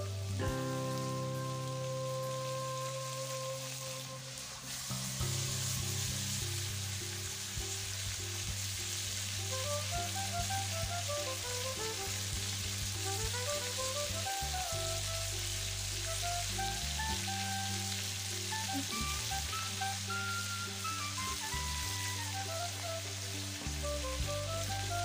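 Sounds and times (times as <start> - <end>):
background music melody: 0.0 - 25.0
fish sizzling in oil: 0.0 - 25.0.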